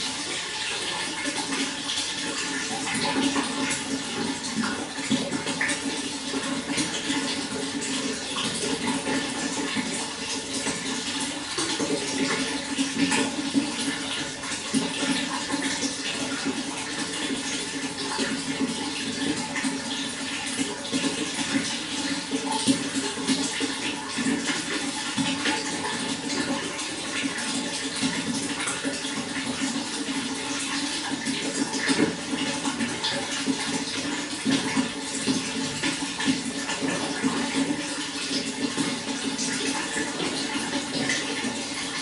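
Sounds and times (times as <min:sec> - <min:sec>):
running water splashing: 0:00.0 - 0:42.0.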